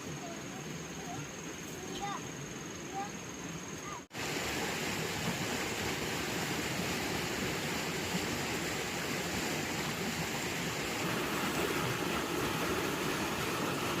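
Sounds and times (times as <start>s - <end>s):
steady rushing hiss: 0.0s - 14.0s.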